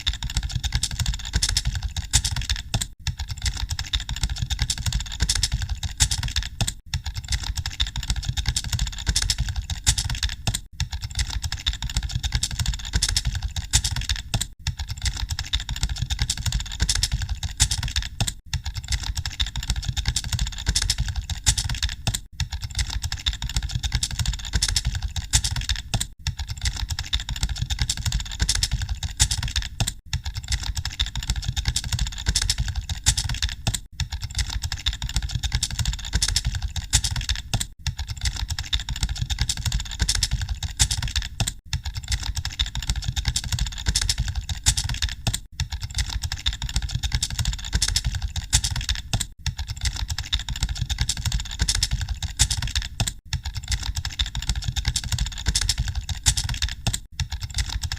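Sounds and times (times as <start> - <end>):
fast keyboard typing: 0.0 - 57.9.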